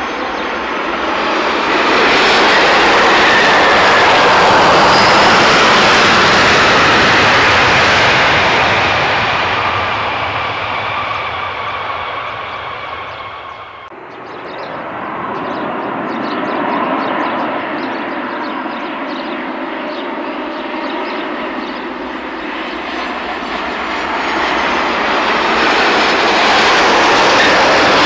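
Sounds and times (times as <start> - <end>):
aircraft engines running: 0.0 - 28.0.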